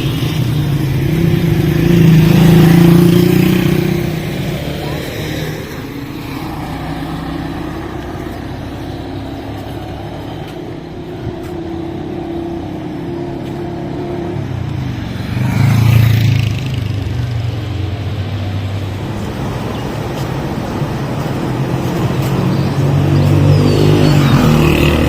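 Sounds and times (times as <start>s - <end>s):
road traffic engines running: 0.0s - 25.0s
vehicle passing close: 0.0s - 25.0s.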